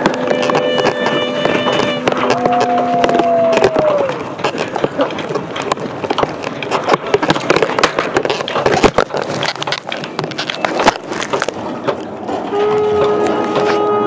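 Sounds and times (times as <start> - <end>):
crackling and rustling: 0.0 - 13.9.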